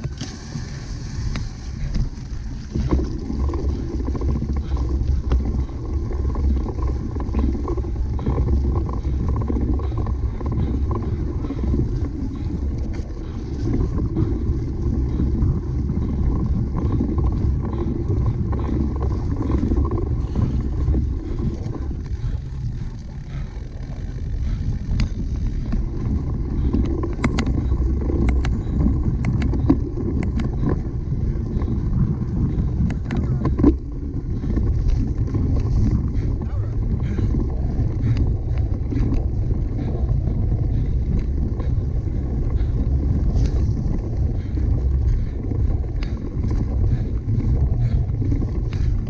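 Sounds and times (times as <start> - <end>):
bicycle clicks and rattles: 0.0 - 49.0
bicycle rumbling over rough ground: 0.0 - 49.0
wind on microphone: 0.0 - 49.0.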